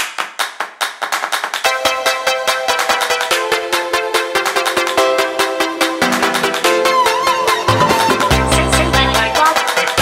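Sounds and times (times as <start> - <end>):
fast beat music with synth chords: 0.0 - 10.0.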